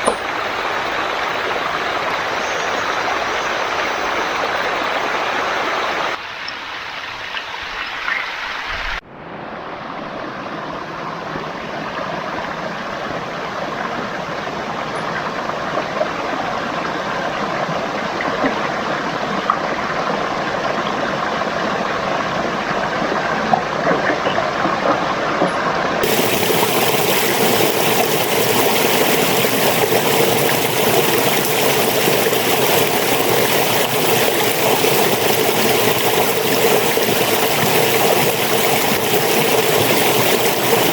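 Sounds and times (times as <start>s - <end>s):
stream flowing: 0.0s - 25.0s, 26.0s - 40.9s.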